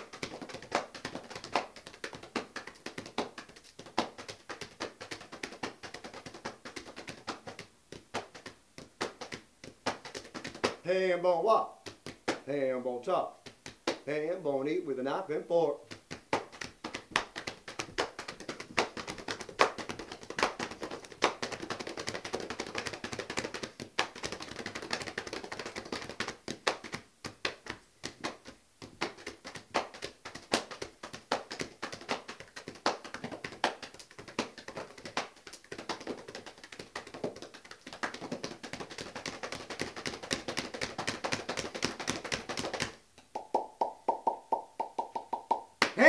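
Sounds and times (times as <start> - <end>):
hands slapping thighs and chest: 0.0 - 14.6, 15.6 - 46.0.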